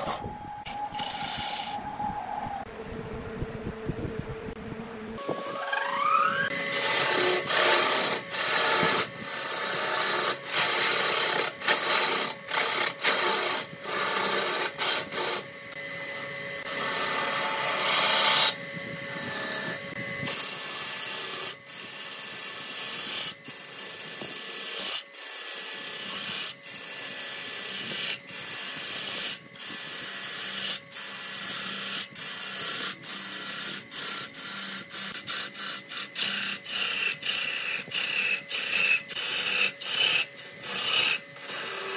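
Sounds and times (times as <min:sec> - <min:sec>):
lathe tool scraping wood: 0:00.0 - 0:02.0, 0:05.2 - 0:41.9.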